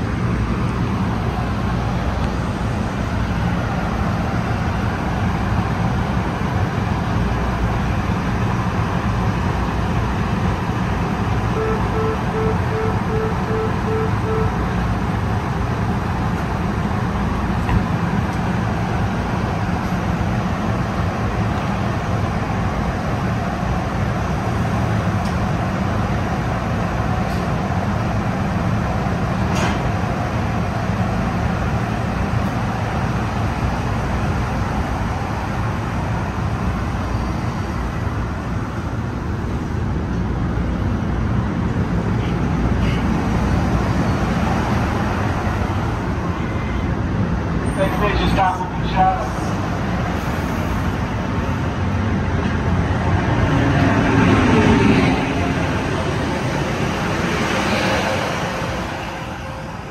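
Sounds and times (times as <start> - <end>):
train low hum and rumble: 0.0 - 59.9.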